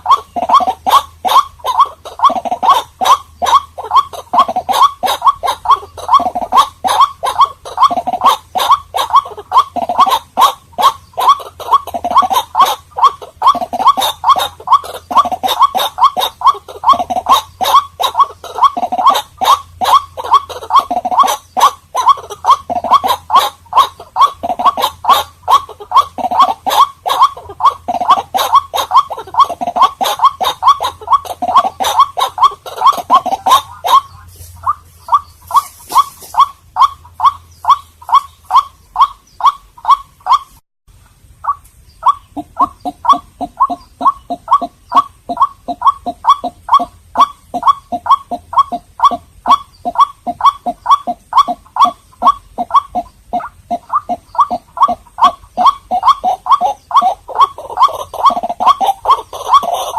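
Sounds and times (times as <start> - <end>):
bird harsh repeated calls: 0.0 - 40.6, 41.4 - 59.9.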